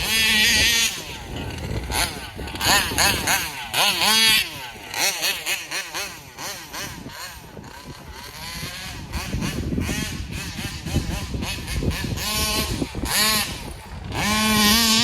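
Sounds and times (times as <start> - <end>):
rc car engine revving: 0.0 - 15.0.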